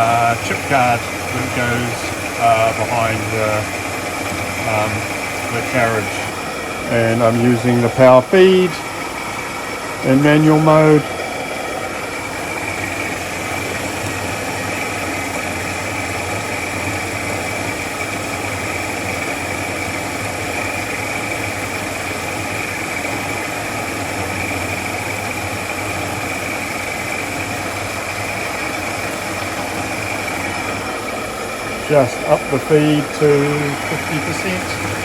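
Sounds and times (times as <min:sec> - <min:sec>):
milling machine cutting: 0:00.0 - 0:35.0.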